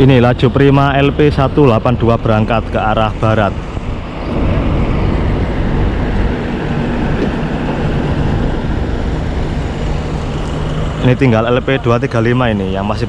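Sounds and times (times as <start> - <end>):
diesel bus engine rumbling: 0.0 - 13.0.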